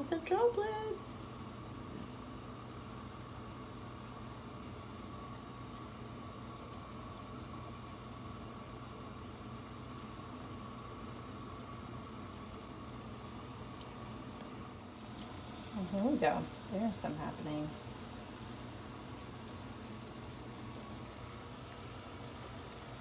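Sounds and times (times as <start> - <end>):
electrical hum: 0.0 - 23.0
water hissing in a pan: 0.0 - 23.0.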